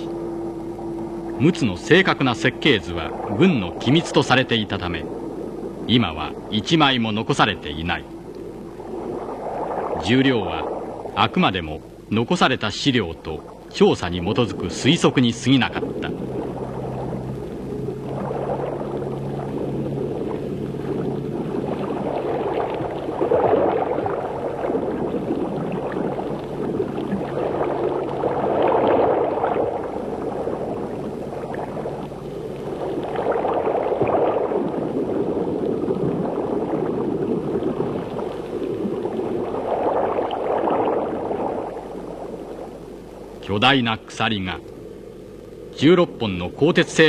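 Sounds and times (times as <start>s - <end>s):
low hum: 0.0s - 47.0s
underwater bubbling and rushing: 0.0s - 47.0s.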